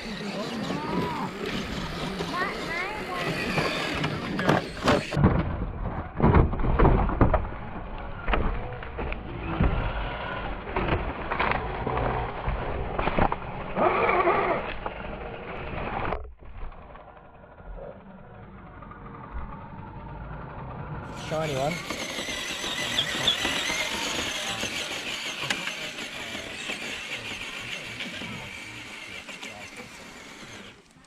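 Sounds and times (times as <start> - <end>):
toy truck scraping over rocks: 0.0 - 6.1, 8.0 - 18.8, 21.1 - 31.0.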